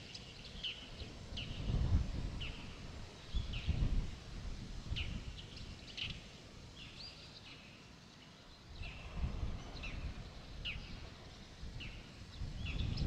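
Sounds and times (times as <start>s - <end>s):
birds chirping: 0.0s - 3.9s, 4.8s - 13.0s.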